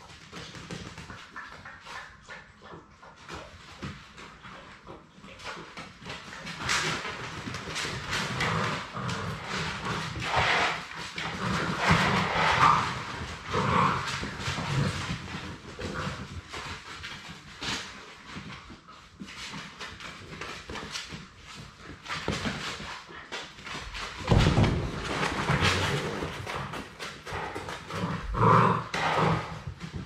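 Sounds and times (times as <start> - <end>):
paws scrabbling on hard floor: 0.0 - 30.0
puppies scuffling: 0.0 - 30.0.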